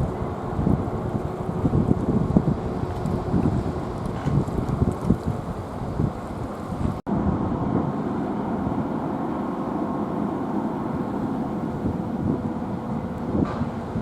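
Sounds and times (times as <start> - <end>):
ship engines rumbling: 0.0 - 14.0.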